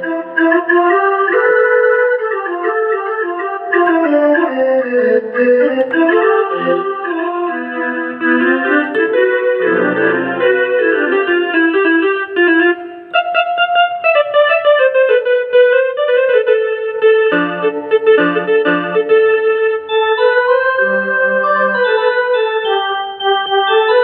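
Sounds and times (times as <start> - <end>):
electronic keyboard melody: 0.0 - 24.0.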